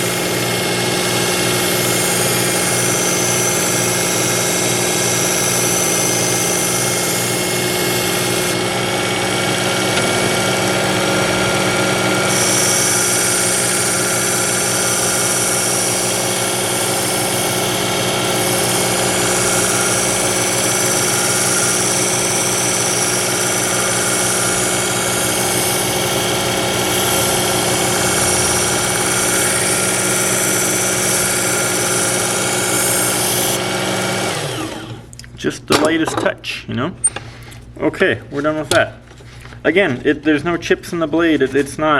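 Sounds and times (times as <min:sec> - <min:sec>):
belt sharpener grinding knife: 0:00.0 - 0:34.7.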